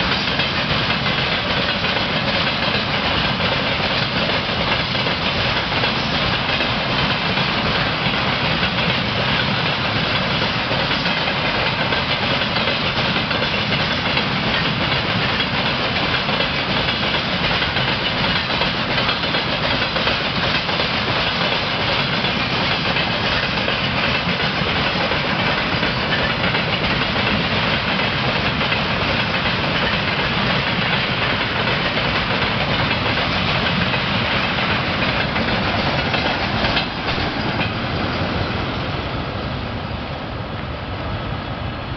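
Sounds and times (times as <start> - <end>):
freight train wheels rumbling: 0.0 - 41.9.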